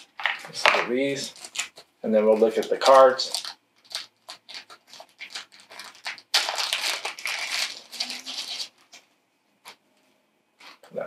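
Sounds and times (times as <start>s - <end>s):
plastic shrink-wrap crinkling: 0.0s - 9.8s.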